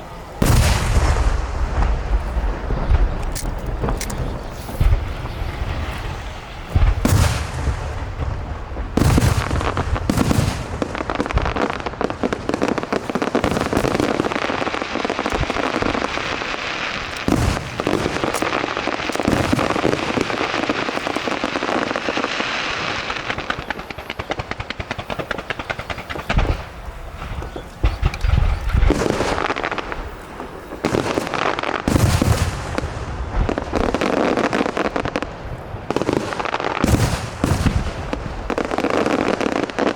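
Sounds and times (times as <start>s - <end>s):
fireworks booming: 0.0s - 39.9s
fireworks crackling: 0.0s - 39.9s.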